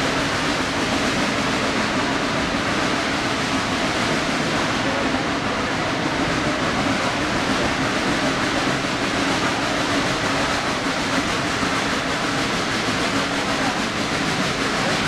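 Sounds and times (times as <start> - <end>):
steam train rushing noise: 0.0 - 15.0.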